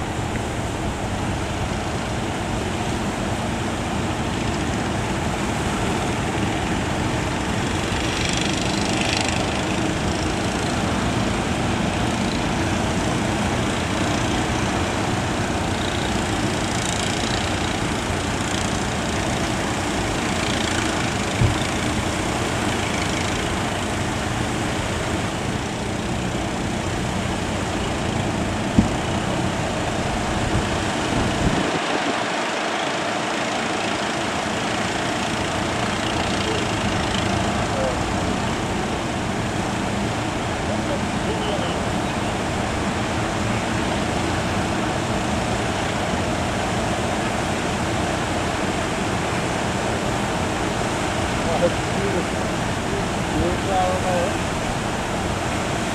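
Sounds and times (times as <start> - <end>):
boat engines running: 0.0 - 55.9
surf: 0.0 - 55.9
wind: 0.0 - 55.9.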